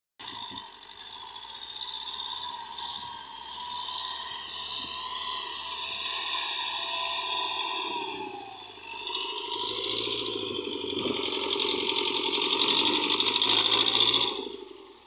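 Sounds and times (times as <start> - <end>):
tractor diesel engine under load: 0.2 - 15.0.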